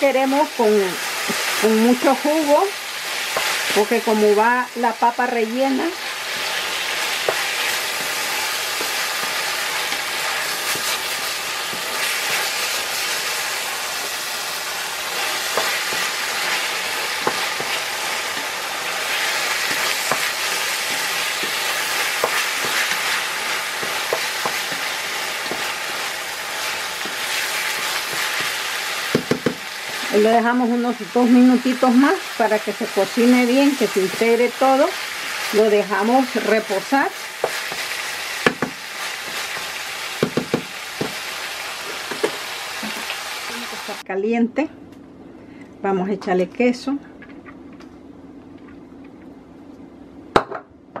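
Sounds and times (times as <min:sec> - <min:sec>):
meat sizzling in a frying pan: 0:00.0 - 0:44.0.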